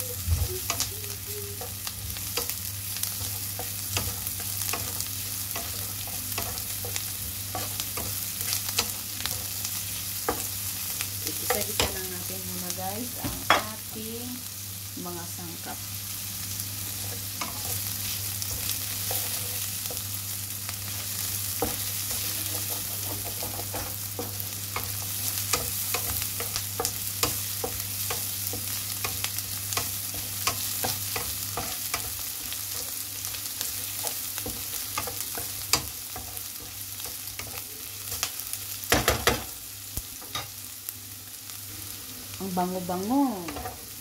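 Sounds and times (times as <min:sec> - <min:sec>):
food sizzling in oil: 0:00.0 - 0:44.0.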